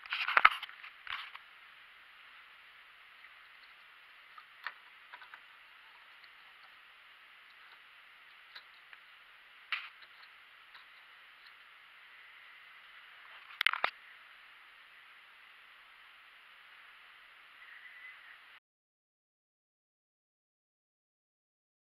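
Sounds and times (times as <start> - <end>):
faint steady hiss: 0.0 - 18.6.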